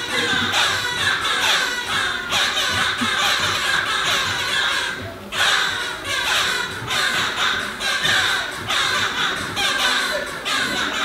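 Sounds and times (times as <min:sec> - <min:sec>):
squawking chattering bird calls: 0:00.0 - 0:11.0.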